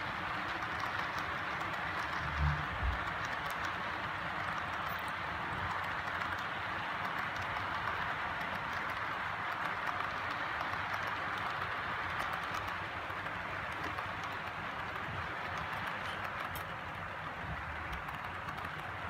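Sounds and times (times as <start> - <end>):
model train wheels rolling: 0.0 - 19.0.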